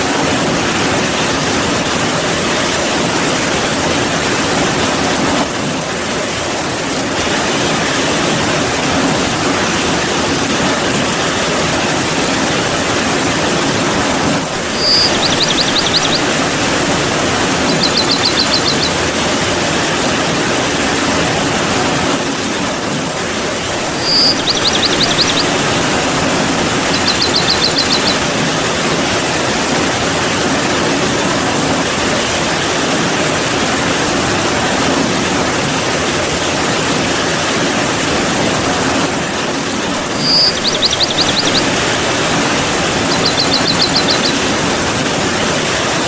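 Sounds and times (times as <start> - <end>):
heavy rain: 0.0 - 46.0.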